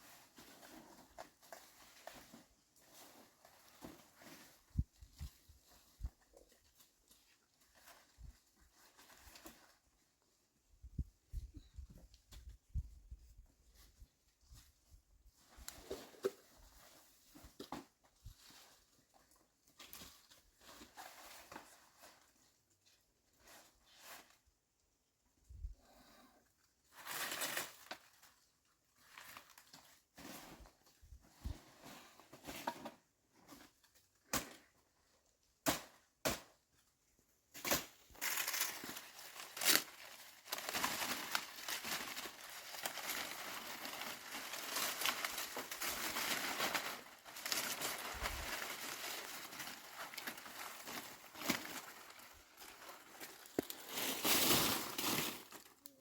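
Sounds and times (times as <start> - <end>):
crinkling and rustling: 0.0 - 24.8, 26.8 - 35.4, 36.6 - 56.0.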